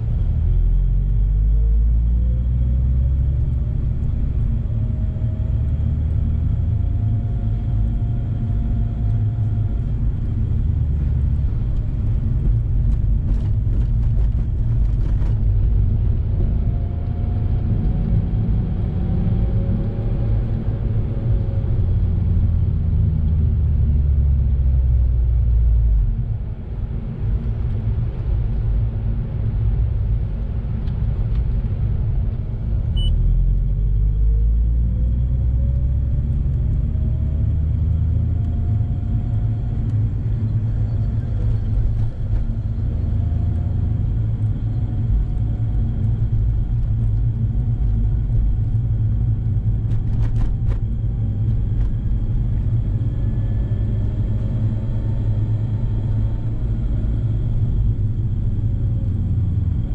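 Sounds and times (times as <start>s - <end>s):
road noise: 0.0s - 59.9s
rotary engine rumble: 0.0s - 59.9s.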